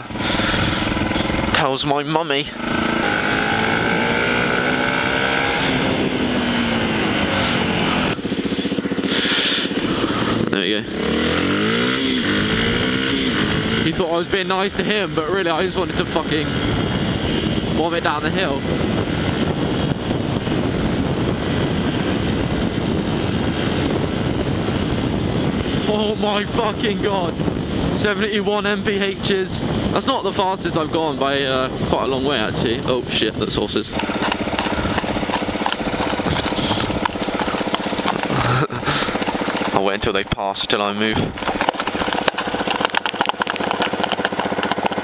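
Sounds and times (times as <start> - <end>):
wind rush over helmet: 0.0 - 1.8, 2.5 - 45.0
motorcycle engine running: 0.0 - 29.9, 33.8 - 45.0.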